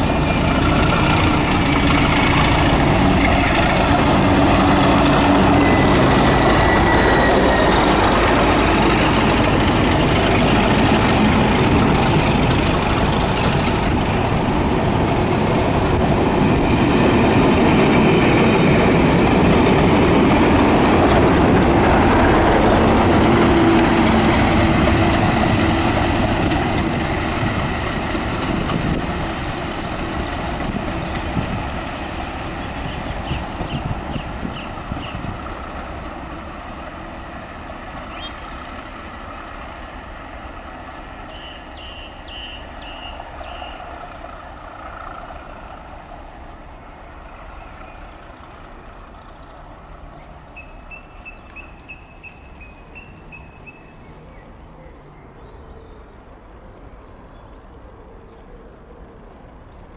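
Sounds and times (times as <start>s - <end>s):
train wheels on rails: 0.0s - 54.2s
diesel locomotive passing: 0.0s - 59.9s.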